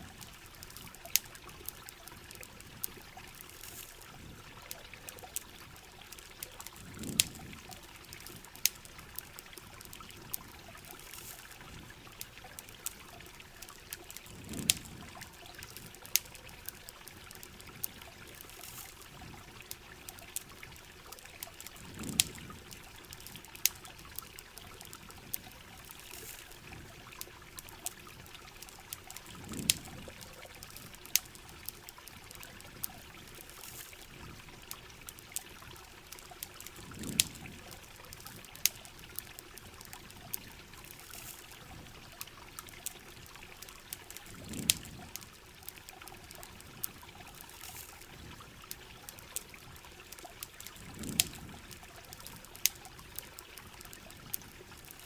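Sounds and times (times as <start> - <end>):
fire crackling and popping: 0.0 - 55.0
steady rain: 0.0 - 55.0.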